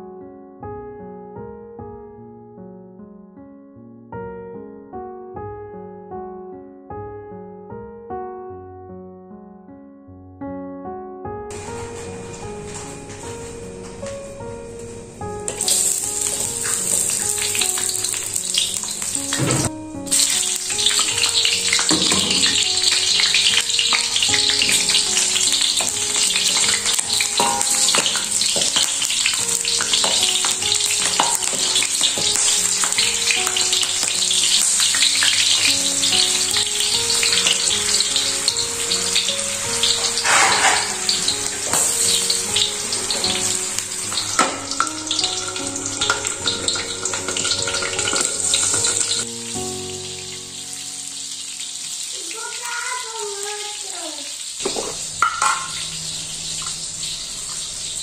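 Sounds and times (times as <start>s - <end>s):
shallots sizzling in hot oil: 11.5s - 58.0s.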